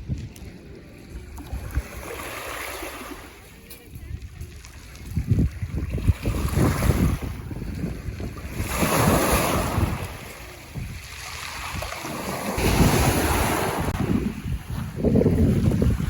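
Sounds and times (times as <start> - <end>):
wind buffeting microphone: 0.0 - 3.0, 3.8 - 16.0
waves breaking: 0.0 - 16.0.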